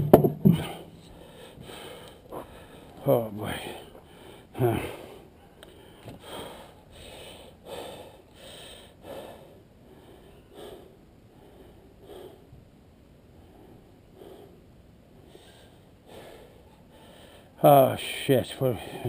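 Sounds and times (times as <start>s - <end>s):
man breathing heavily: 0.4s - 12.7s, 13.3s - 17.6s, 18.7s - 19.0s.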